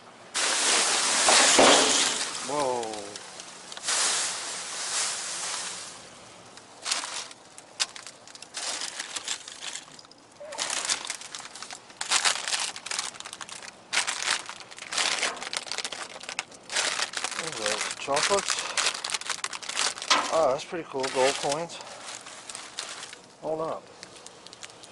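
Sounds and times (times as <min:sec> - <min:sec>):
plastic packaging crinkling: 0:00.4 - 0:24.9.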